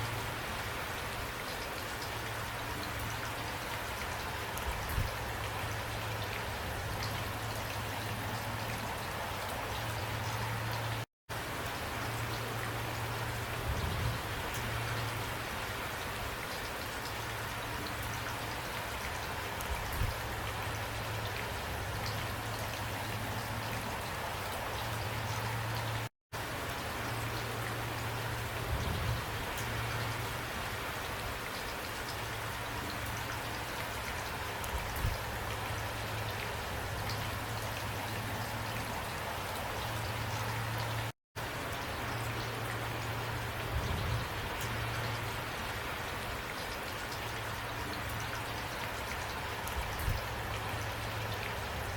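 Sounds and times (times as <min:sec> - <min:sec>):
rain falling and spattering: 0:00.0 - 0:51.9.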